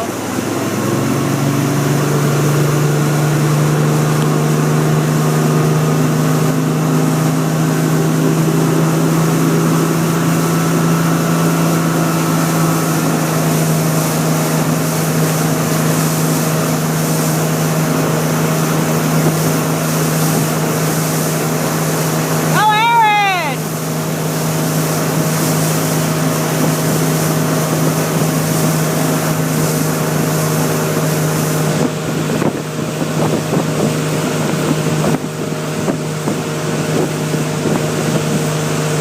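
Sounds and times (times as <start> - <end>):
speedboat engine running: 0.0 - 39.0
wind and rushing water: 0.0 - 39.0.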